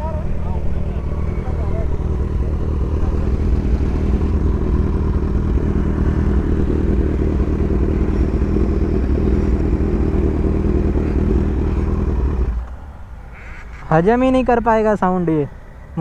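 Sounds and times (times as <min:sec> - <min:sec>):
motorcycle engine running steadily: 0:00.0 - 0:14.5.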